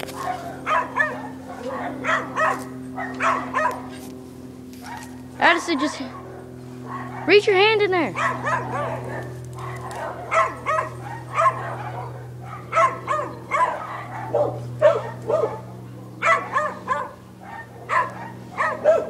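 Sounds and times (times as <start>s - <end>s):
dogs barking and yipping: 0.0s - 19.0s
steady low hum: 0.0s - 19.0s.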